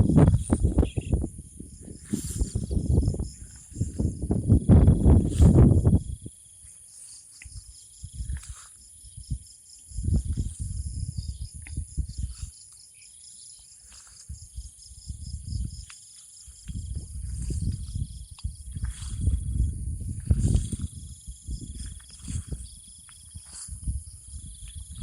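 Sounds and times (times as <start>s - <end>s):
wind gusting on microphone: 0.0s - 6.5s, 7.4s - 12.6s, 14.2s - 15.9s, 16.5s - 25.0s
insects chirring: 0.0s - 25.0s.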